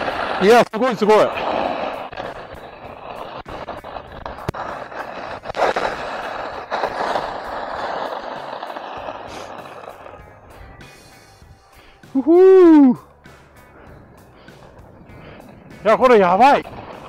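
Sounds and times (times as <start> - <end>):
skis scraping on snow: 0.0 - 17.0.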